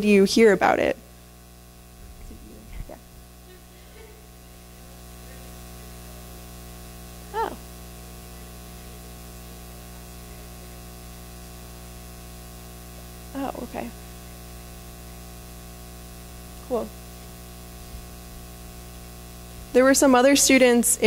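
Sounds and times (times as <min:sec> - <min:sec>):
microphone system hum and hiss: 0:00.0 - 0:21.0.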